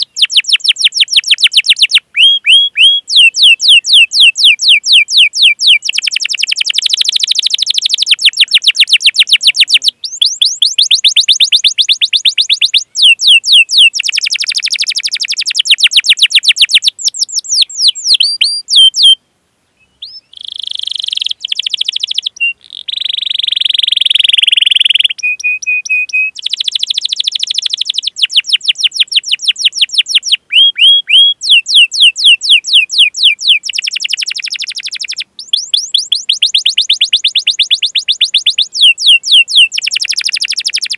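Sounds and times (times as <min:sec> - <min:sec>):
canary singing: 0:00.0 - 0:19.2, 0:19.8 - 0:40.9.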